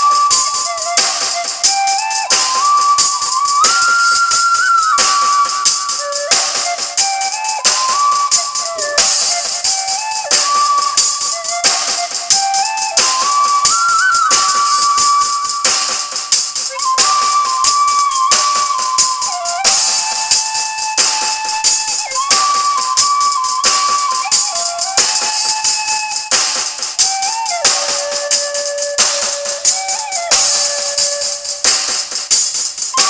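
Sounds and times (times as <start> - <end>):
bamboo flute melody: 0.0 - 33.0
jingling hand percussion: 0.0 - 33.0.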